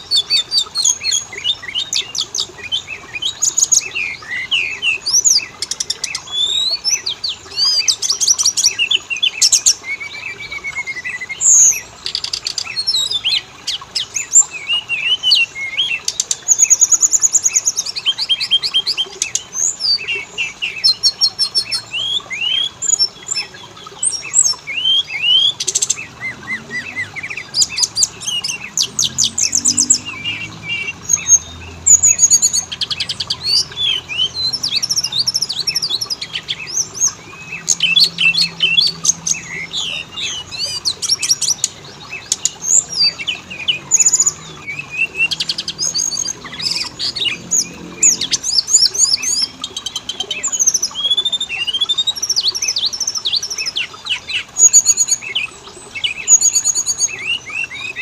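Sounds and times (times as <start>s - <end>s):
magpie-robin song: 0.0s - 58.0s.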